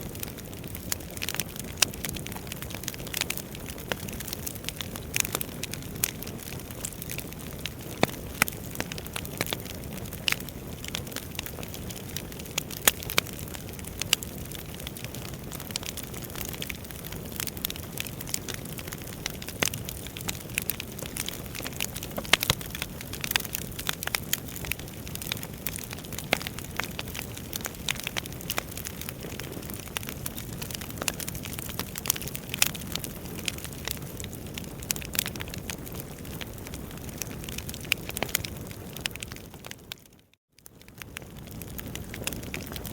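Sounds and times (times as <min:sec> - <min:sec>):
logs crackling and popping: 0:00.0 - 0:42.9.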